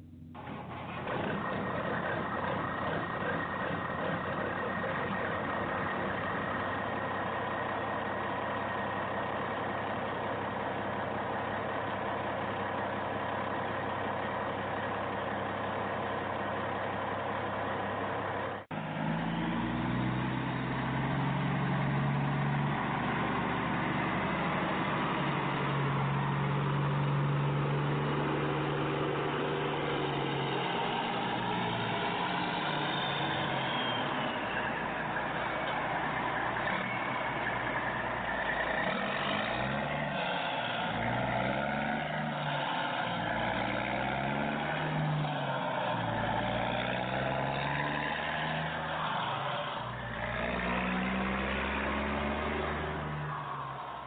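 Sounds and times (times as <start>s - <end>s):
heavy truck engine running: 0.0s - 54.0s.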